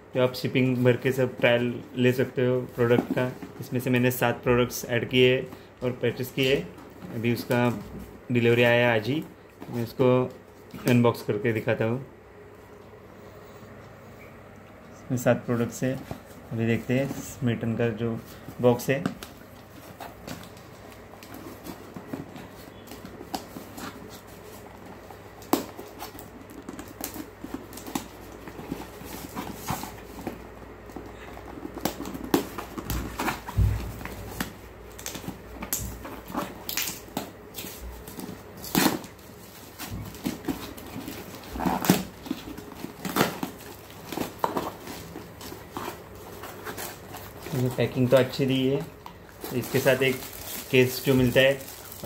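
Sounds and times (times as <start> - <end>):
cardboard and plastic rustling: 0.1 - 12.0, 12.6 - 52.0.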